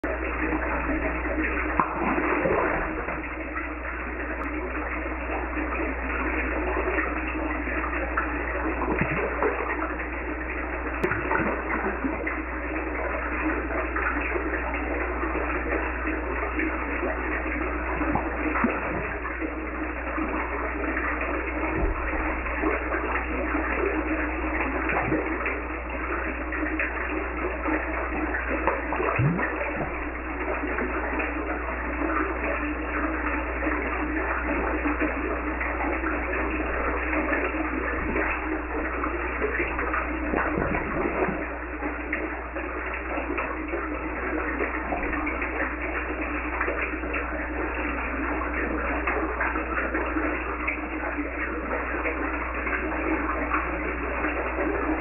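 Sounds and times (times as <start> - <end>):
low steady hum: 0.0 - 55.0
water splashing in a tank: 0.0 - 55.0.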